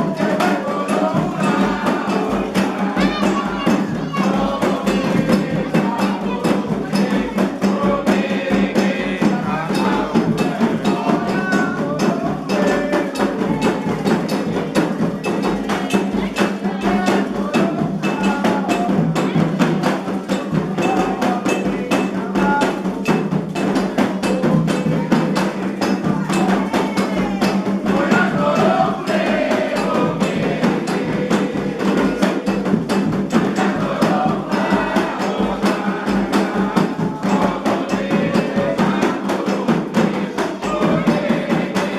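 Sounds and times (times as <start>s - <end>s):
agogo bell rhythm: 0.0s - 41.9s
hand drums: 0.0s - 41.9s
people singing chants: 0.0s - 41.9s.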